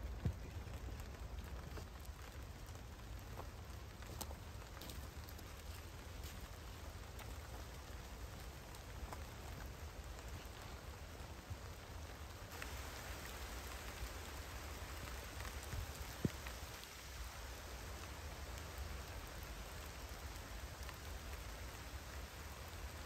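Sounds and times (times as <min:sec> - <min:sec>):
light rain on leaves: 0:00.0 - 0:23.0.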